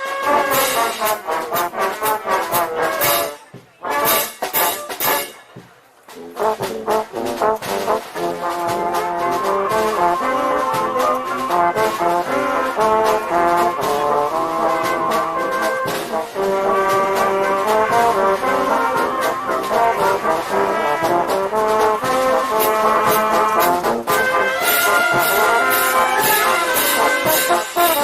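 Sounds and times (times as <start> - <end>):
brass band playing a march: 0.0 - 28.0
sharp percussion strokes: 0.0 - 28.0.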